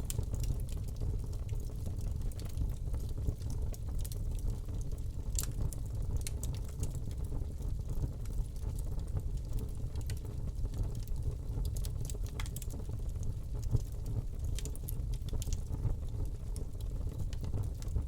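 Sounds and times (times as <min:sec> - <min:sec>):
fire crackling and popping: 0:00.0 - 0:18.0
low rumble of flame: 0:00.0 - 0:18.0.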